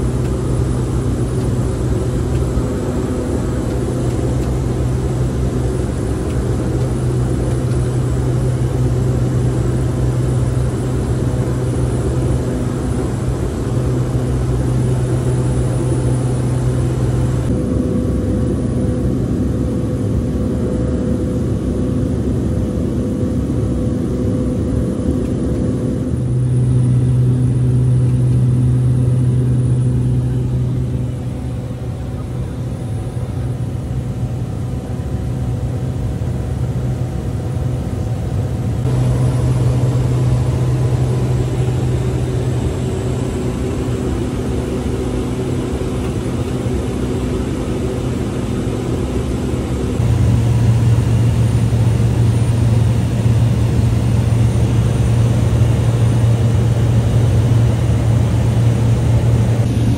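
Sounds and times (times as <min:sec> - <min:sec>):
turboprop drone from inside cabin: 0:00.0 - 0:59.9.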